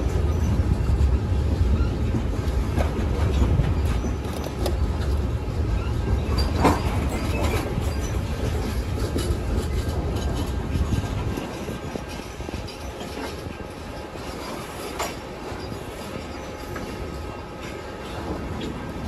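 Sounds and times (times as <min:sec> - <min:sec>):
steel wheels rumbling on rail: 0:00.0 - 0:19.0
wheels clacking over rail joints: 0:00.0 - 0:19.0.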